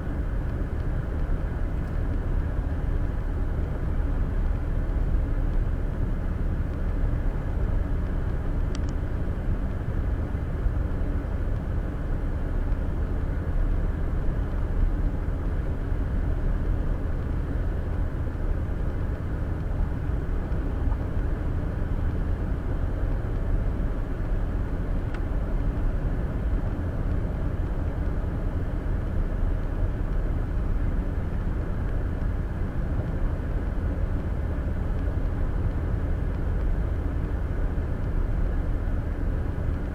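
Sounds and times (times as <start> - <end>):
car road noise inside cabin: 0.0 - 39.9.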